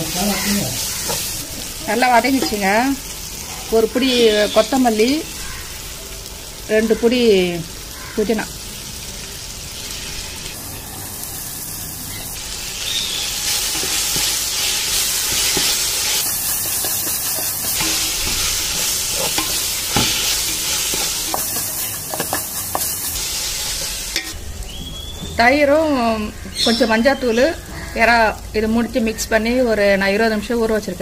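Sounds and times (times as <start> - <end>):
masala sizzling in pot: 0.0 - 31.0.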